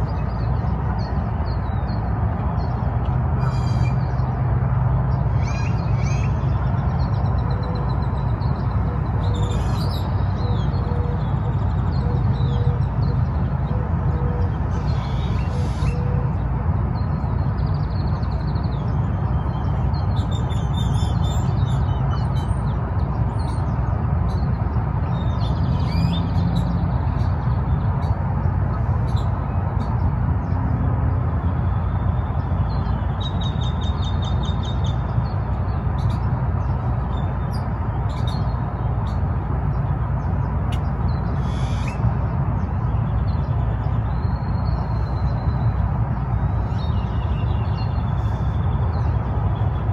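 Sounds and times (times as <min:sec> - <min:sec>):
birds calling and chirping: 0:00.0 - 0:49.9.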